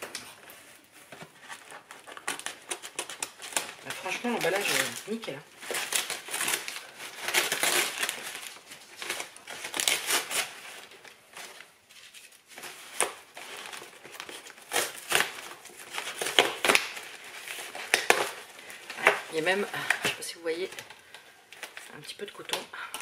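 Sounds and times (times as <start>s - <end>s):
packing material crinkling: 0.0s - 23.0s.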